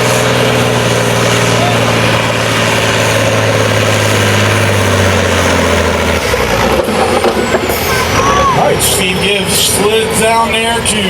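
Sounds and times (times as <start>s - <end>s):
tractor engine under load: 0.0s - 11.0s.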